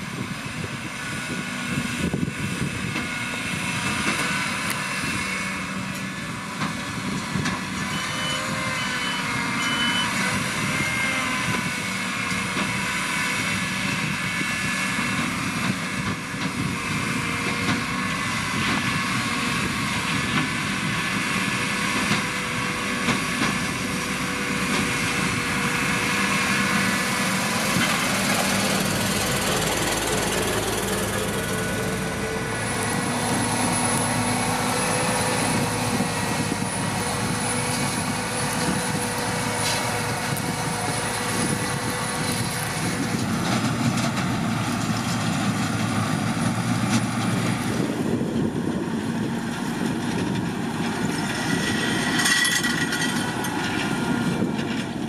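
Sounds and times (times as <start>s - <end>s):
harvester diesel drone: 0.0s - 55.0s
machinery whining: 0.0s - 55.0s.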